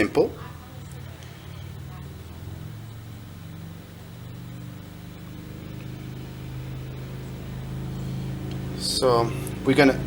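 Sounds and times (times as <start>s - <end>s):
low engine-like hum: 0.3s - 10.0s.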